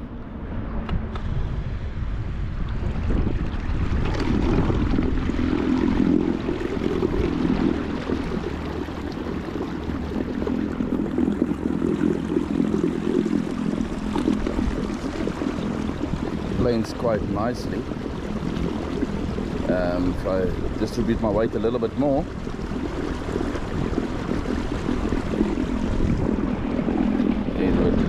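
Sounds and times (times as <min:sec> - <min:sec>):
propeller churning water: 0:00.0 - 0:28.0.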